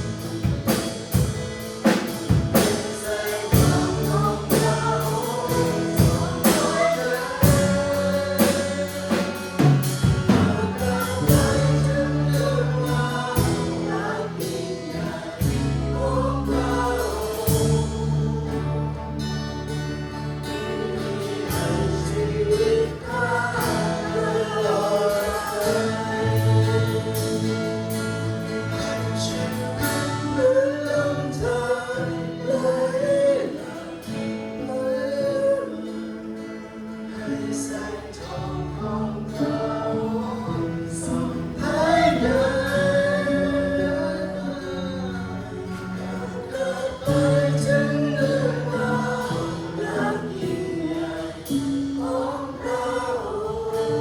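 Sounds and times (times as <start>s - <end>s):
band with bass keys and drums: 0.0s - 34.5s, 38.8s - 53.8s
voices singing together: 0.0s - 54.0s.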